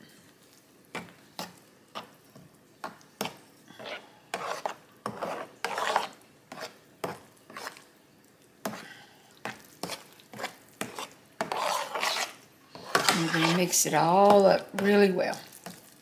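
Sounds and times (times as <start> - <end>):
soft scraping of mixture: 0.1 - 16.0.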